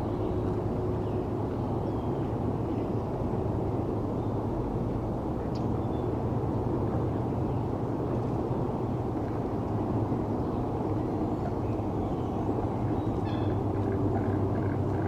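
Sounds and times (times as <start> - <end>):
constant low hum: 0.0 - 15.0
distant city traffic rumble: 0.0 - 15.0.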